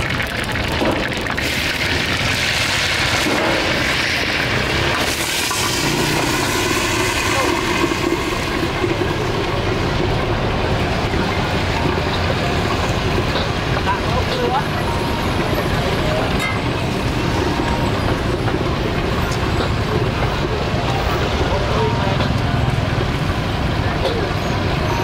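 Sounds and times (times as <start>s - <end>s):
gas burners hissing and rumbling: 0.2s - 24.8s.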